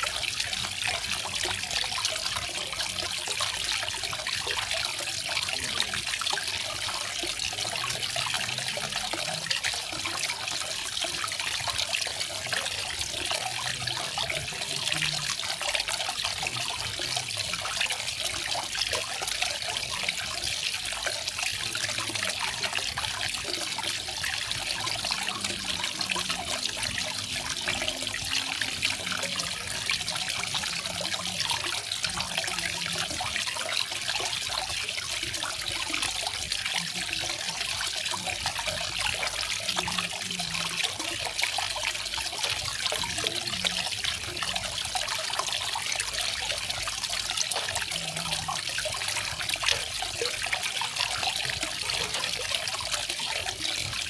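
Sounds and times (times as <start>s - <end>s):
waterfall splashing and trickling: 0.0s - 54.0s.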